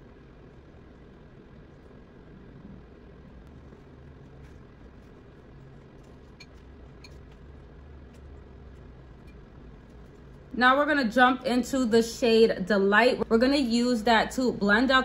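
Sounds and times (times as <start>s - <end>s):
faint low rumble: 0.0s - 15.0s.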